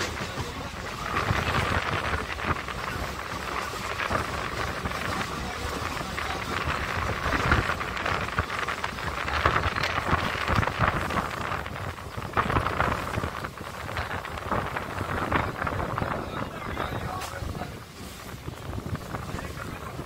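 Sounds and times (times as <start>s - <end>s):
train rumble: 0.0s - 20.0s
wheels and coach clattering: 0.0s - 20.0s
wind rushing past: 0.0s - 20.0s.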